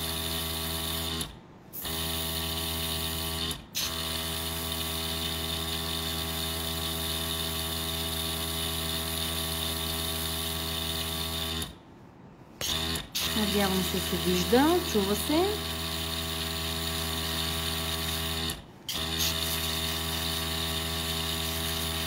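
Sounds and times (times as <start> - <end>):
air compressor humming: 0.0 - 11.8, 12.5 - 22.0.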